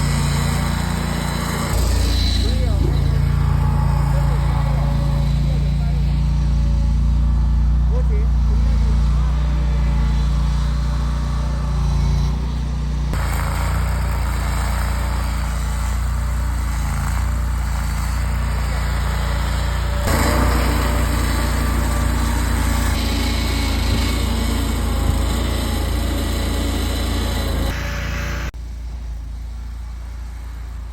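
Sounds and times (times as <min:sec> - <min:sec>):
small engine running: 0:00.0 - 0:30.9.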